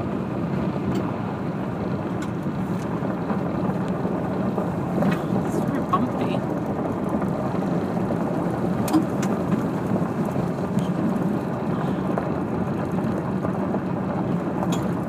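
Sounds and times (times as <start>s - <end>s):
vehicle tyres and engine rumble: 0.0s - 15.0s.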